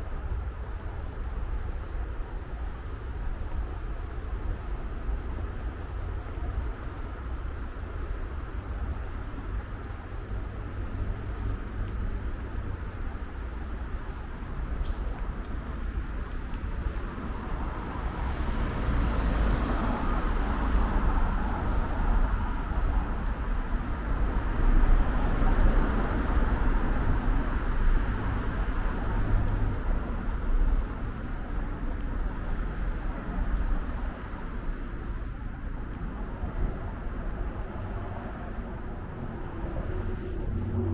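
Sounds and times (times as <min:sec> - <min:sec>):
low street rumble: 0:00.0 - 0:40.9.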